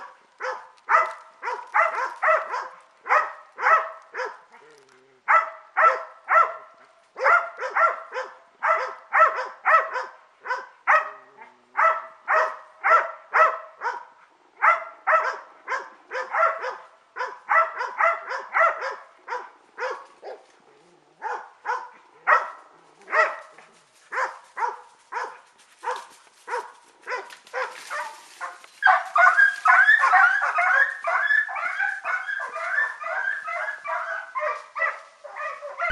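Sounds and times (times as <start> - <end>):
hounds barking: 0.0 - 4.6, 5.3 - 20.6, 21.2 - 35.9.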